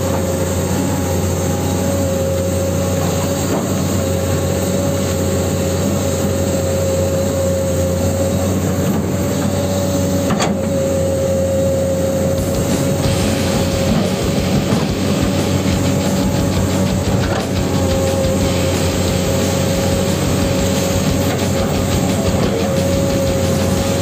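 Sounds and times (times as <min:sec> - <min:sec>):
toy excavator motors whining: 0:00.0 - 0:24.0.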